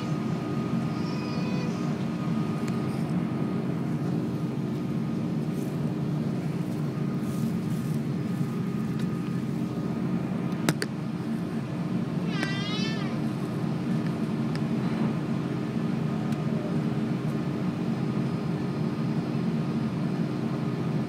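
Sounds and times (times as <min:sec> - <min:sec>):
aircraft cabin engine hum: 0:00.0 - 0:21.0.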